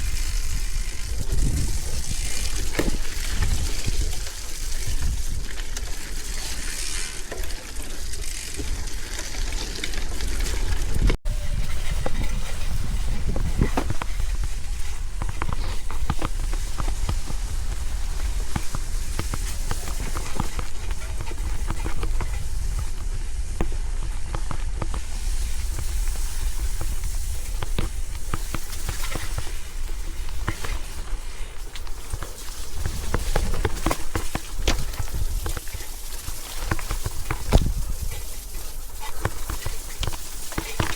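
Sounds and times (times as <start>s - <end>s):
wind buffeting microphone: 0.0s - 6.2s, 10.2s - 40.9s
bicycle tyres on wet gravel: 0.0s - 40.9s
clicks of grit and stones: 0.0s - 40.9s.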